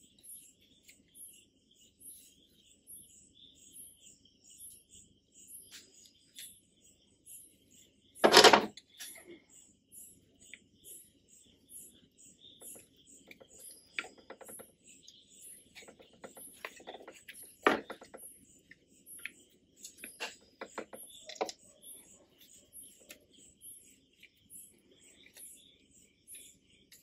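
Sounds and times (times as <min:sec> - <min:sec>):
steady high chirping: 0:00.0 - 0:27.0.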